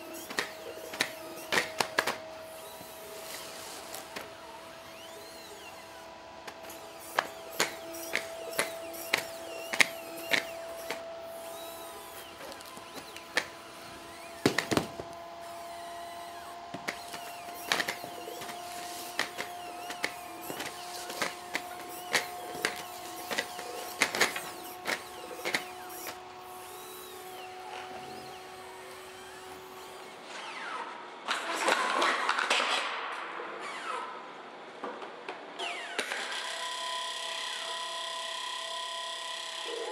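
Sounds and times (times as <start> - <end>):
hydraulic pump whine: 0.0 - 31.3, 35.5 - 39.9.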